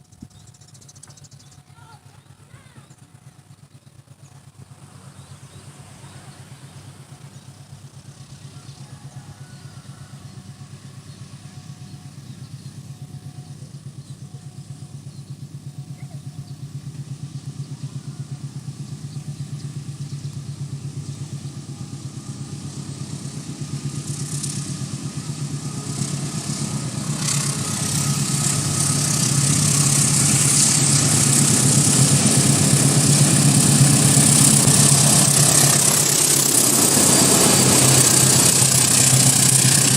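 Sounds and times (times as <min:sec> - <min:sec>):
diesel locomotive engine drone: 0:00.0 - 0:39.9
wheel and rail noise: 0:00.8 - 0:39.9.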